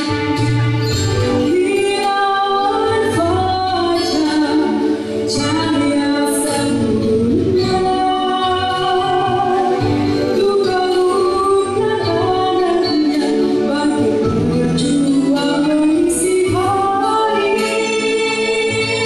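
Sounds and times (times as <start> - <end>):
instrumental accompaniment: 0.0 - 19.0
woman singing into microphone: 1.1 - 19.0.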